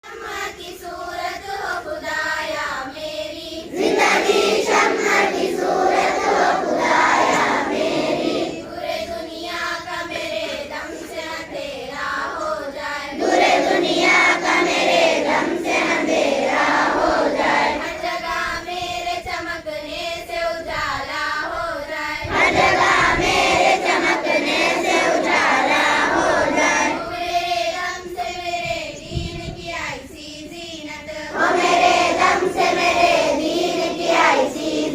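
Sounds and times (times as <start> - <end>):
children singing in chorus: 0.0 - 34.9.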